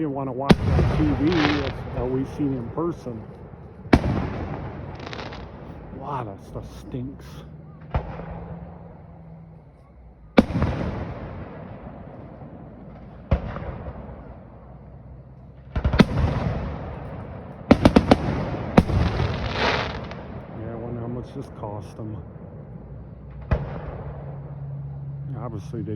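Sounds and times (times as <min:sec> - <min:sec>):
fireworks bangs echoing: 0:00.0 - 0:09.4, 0:10.2 - 0:22.5, 0:23.2 - 0:24.7
fireworks booming: 0:00.0 - 0:25.5.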